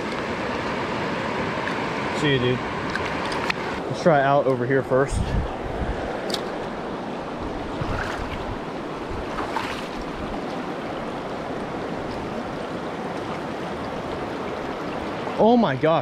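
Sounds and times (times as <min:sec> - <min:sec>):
river flowing over rocks: 0:00.0 - 0:04.8, 0:05.5 - 0:16.0.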